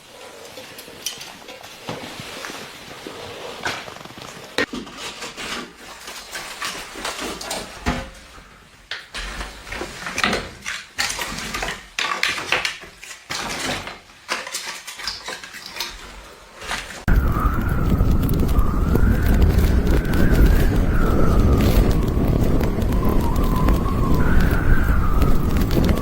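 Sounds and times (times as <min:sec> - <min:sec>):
clatter of objects being handled: 0:03.6 - 0:26.0.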